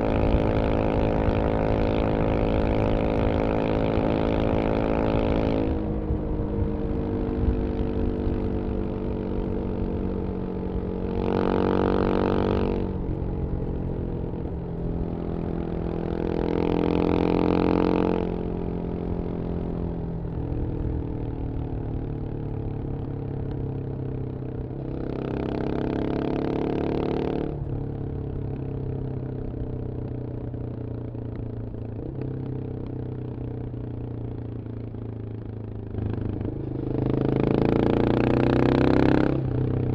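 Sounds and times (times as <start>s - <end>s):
motorcycle engine running at speed: 0.0s - 39.9s.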